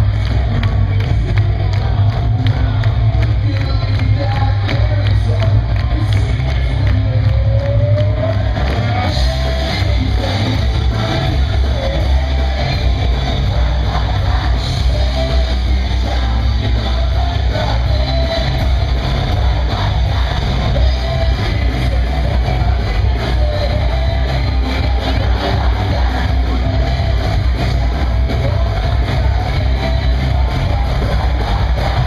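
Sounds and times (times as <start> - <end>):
rock music with singing: 0.0 - 32.0.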